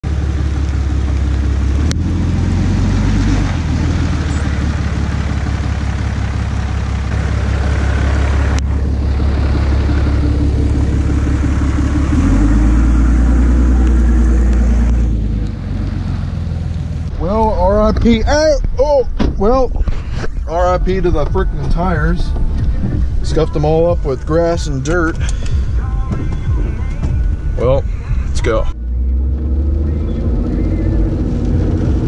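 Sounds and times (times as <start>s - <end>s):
diesel truck driving past: 0.0s - 32.0s.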